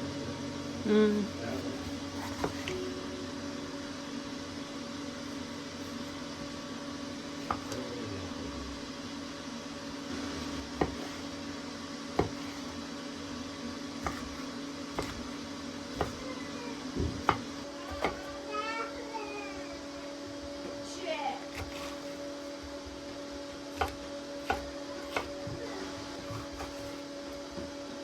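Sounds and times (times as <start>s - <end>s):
electric appliance hum: 0.0s - 28.0s.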